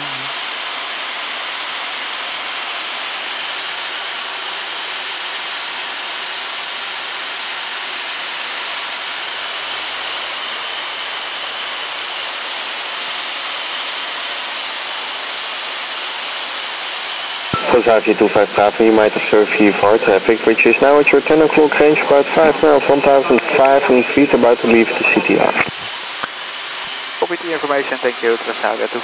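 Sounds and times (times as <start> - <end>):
rushing air in aircraft cockpit: 1.8 - 29.0.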